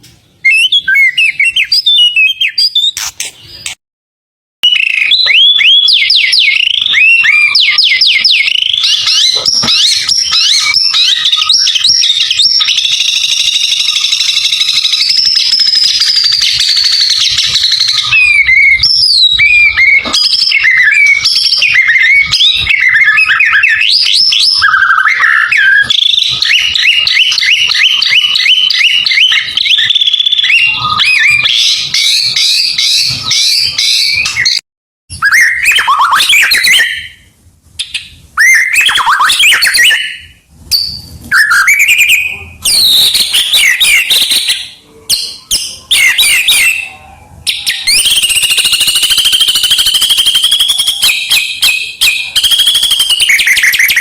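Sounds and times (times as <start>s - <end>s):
bird singing whistled chirps: 0.4s - 3.8s, 4.6s - 54.0s.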